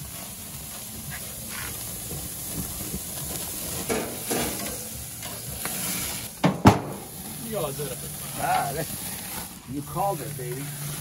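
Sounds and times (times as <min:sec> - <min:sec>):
steaks sizzling on grill: 0:00.0 - 0:11.0.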